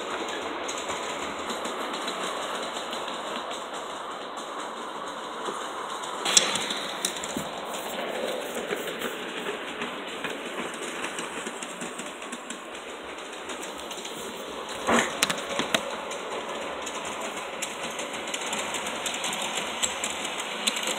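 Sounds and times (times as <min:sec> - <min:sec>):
model train motor hum: 0:00.0 - 0:20.9
wheels clicking on rail joints: 0:00.0 - 0:20.9.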